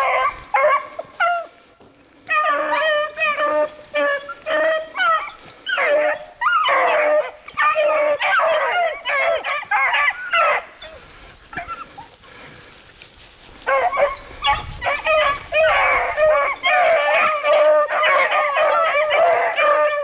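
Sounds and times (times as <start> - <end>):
dogs baying and yelping: 0.0 - 12.8, 13.4 - 20.0.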